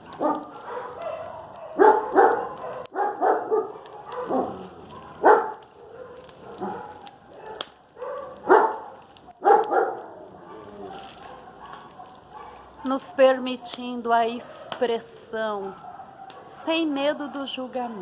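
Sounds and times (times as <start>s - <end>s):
dog barking: 0.0s - 18.0s.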